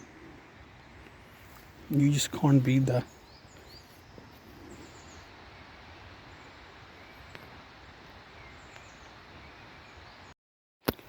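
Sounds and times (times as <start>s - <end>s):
faint bird chirps: 0.0s - 10.4s
outdoor background noise: 0.0s - 11.0s.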